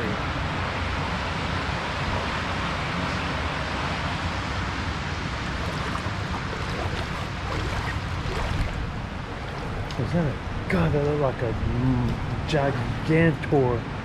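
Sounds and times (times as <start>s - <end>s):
creek water rushing: 1.5s - 14.0s.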